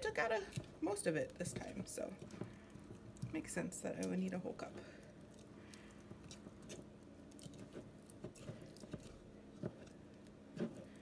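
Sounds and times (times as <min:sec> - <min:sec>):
sticky squelches of stirring: 0:00.0 - 0:11.0.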